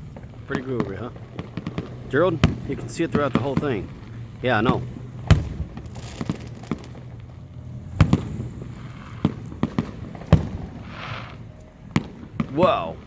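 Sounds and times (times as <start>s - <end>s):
fireworks booming: 0.0s - 13.0s
small firework pops: 0.0s - 13.0s.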